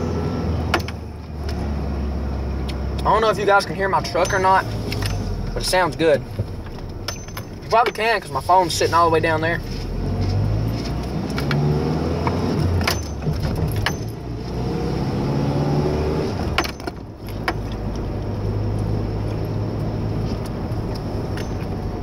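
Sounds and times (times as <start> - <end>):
pickup engine accelerating: 0.0 - 7.7, 8.3 - 22.0.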